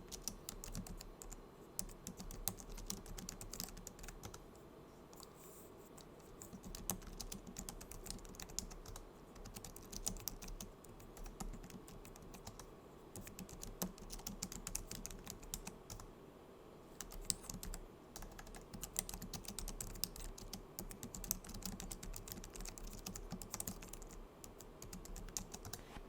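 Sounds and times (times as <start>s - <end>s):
keyboard typing clicks: 0.1s - 4.4s, 6.0s - 16.1s, 17.0s - 25.8s.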